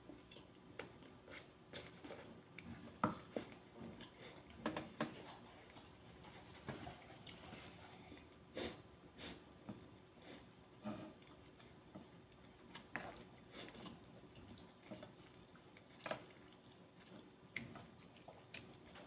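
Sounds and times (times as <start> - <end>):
chewing and wet mouth sounds: 0.0 - 6.0, 6.9 - 8.5, 11.1 - 19.0.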